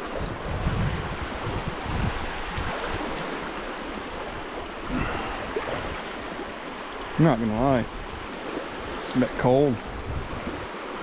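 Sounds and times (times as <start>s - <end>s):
stream rushing over rocks: 0.0s - 11.0s
wind rumbling on microphone: 0.0s - 11.0s.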